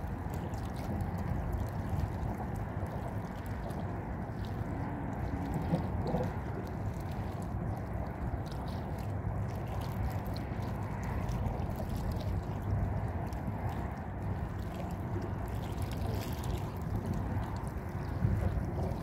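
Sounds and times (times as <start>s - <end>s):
sea water lapping: 0.0s - 19.0s
wind rumble on microphone: 0.0s - 19.0s.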